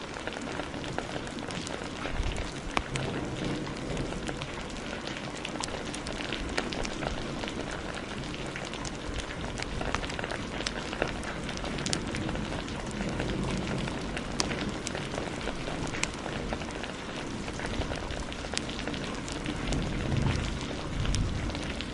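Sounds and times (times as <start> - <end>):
crackling wood fire: 0.0 - 21.9
heavy rain: 0.0 - 21.9
low rumble of thunder: 0.0 - 21.9.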